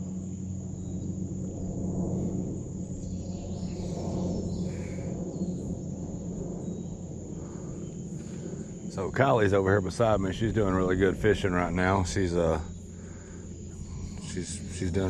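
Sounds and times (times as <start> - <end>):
insects droning: 0.0 - 15.0
low steady hum: 0.0 - 15.0
soft outdoor background noise: 0.0 - 15.0.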